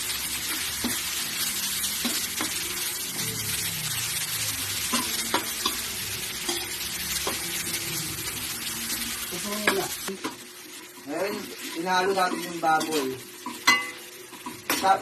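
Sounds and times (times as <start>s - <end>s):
meat sizzling in a wok: 0.0s - 15.0s.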